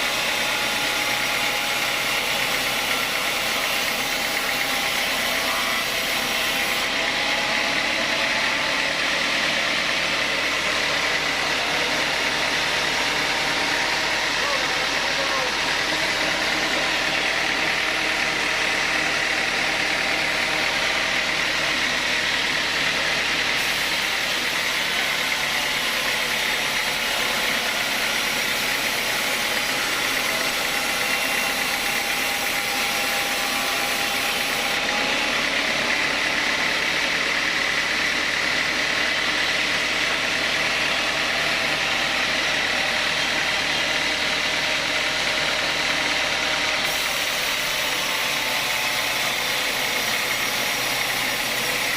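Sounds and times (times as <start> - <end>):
sawmill saw machinery running: 0.0 - 51.9.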